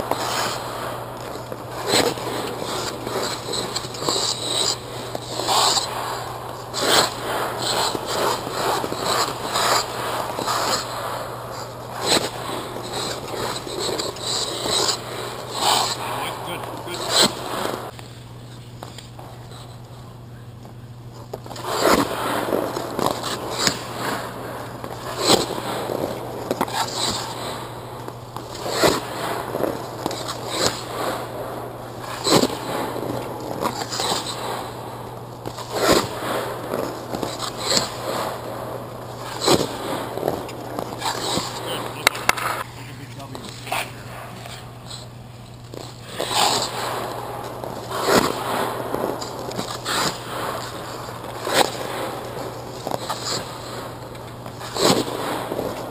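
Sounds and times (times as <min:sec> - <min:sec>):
skate blades scraping ice: 0:00.0 - 0:19.9, 0:21.2 - 0:55.9
steady low hum: 0:00.0 - 0:55.9.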